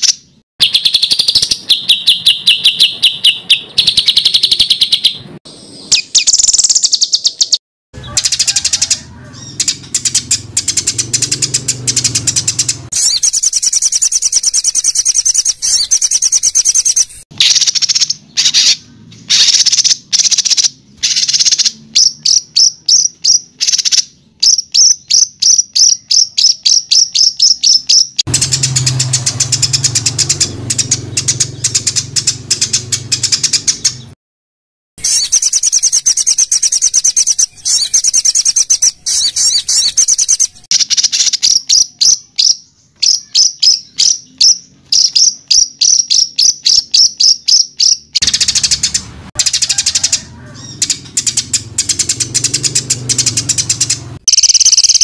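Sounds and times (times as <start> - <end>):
buzzy rattling bird call: 0.0 - 5.2, 5.9 - 24.6, 25.2 - 34.2, 35.0 - 42.4, 43.0 - 55.0
songbird calls: 0.0 - 34.2, 35.0 - 55.0.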